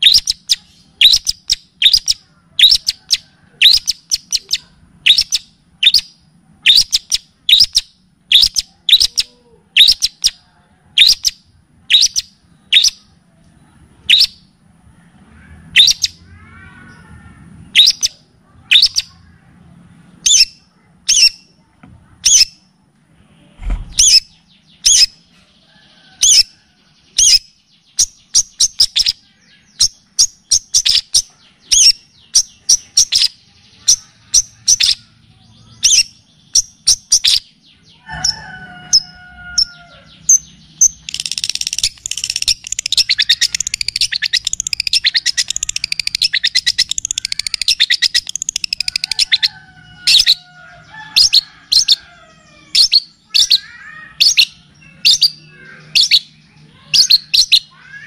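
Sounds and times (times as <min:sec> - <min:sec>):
high bird chirps: 0:00.0 - 0:13.2, 0:14.0 - 0:14.6, 0:15.4 - 0:19.4, 0:20.2 - 0:21.6, 0:22.2 - 0:22.7, 0:23.6 - 0:58.0
rapid dense bird trill: 0:00.0 - 0:13.3, 0:14.0 - 0:19.5, 0:20.1 - 0:21.6, 0:23.8 - 0:58.0.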